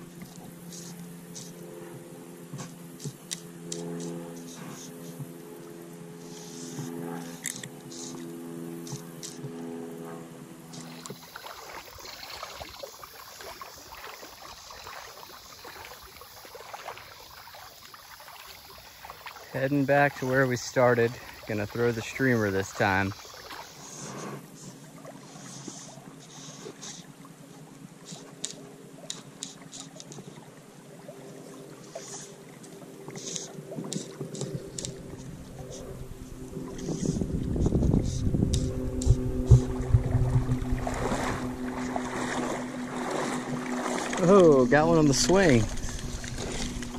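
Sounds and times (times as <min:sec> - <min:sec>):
water splashing around wading legs: 0:00.0 - 0:46.9.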